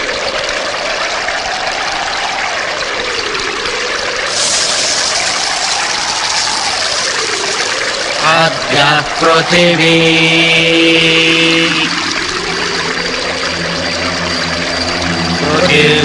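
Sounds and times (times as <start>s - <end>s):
rushing surging water: 0.0s - 16.0s.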